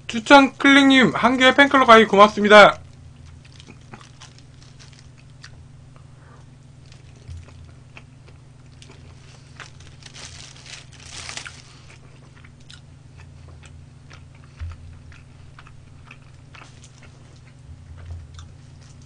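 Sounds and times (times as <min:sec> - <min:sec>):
steady low hum: 0:00.0 - 0:19.0
crunchy chewing: 0:02.8 - 0:19.0.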